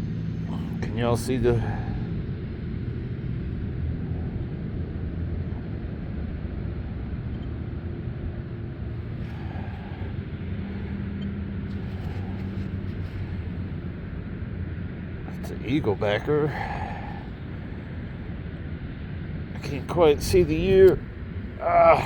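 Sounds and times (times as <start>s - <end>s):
wind buffeting microphone: 2.0s - 22.0s.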